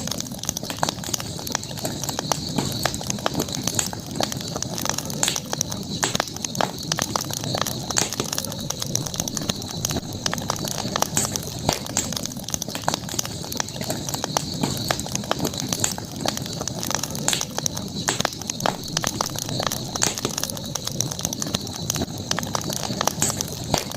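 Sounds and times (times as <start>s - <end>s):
campfire crackling: 0.0s - 23.9s
high-pitched hiss: 0.0s - 23.9s.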